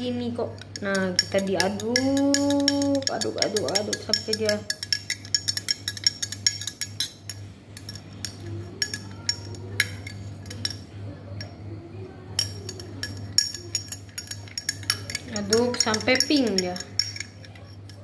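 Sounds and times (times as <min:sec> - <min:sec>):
teaspoon clinking in glass: 0:00.6 - 0:11.6, 0:12.4 - 0:18.0.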